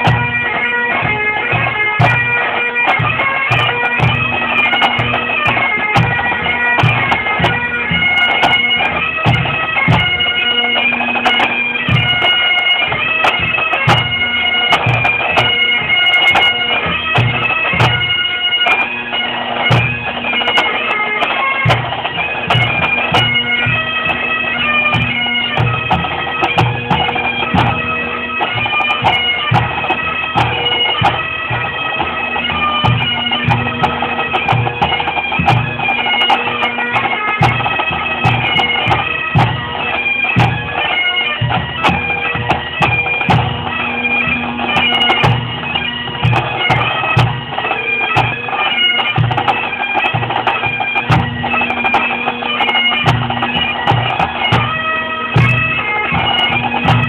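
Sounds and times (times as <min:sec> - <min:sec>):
bagpipes playing: 0:00.0 - 0:57.0
drums beating: 0:00.0 - 0:57.0.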